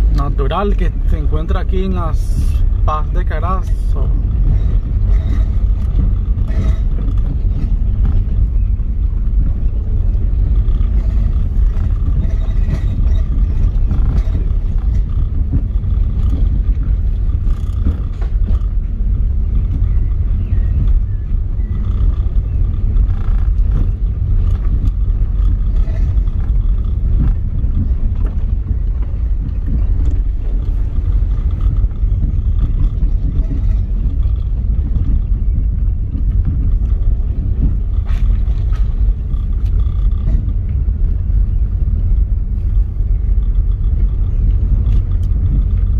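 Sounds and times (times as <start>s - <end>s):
vehicle driving low rumble: 0.0s - 45.9s.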